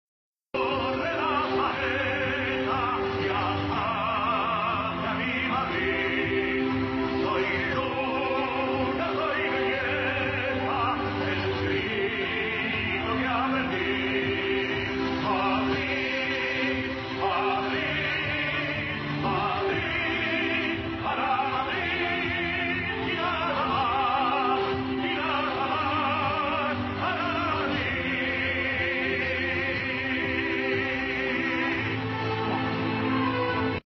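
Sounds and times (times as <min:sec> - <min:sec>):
operatic singing: 0:00.5 - 0:33.8
steady musical accompaniment: 0:00.5 - 0:33.8.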